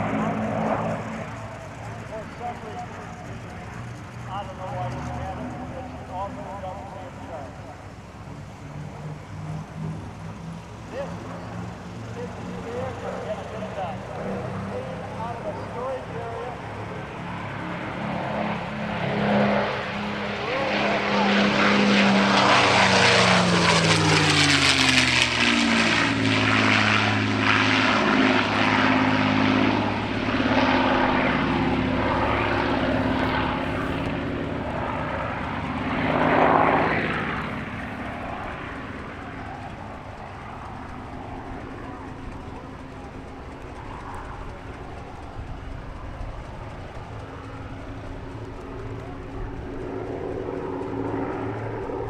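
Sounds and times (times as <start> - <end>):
piston aircraft passing: 0.0 - 52.0.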